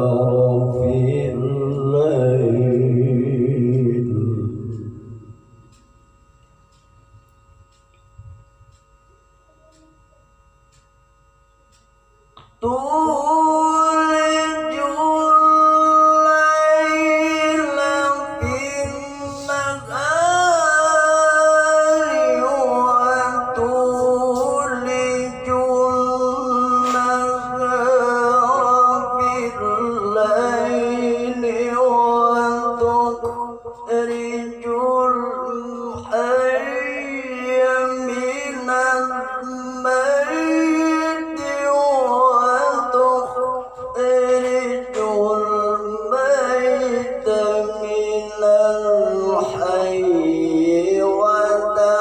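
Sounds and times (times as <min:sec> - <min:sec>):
man reciting melodically: 0:00.0 - 0:05.9, 0:12.4 - 0:52.0.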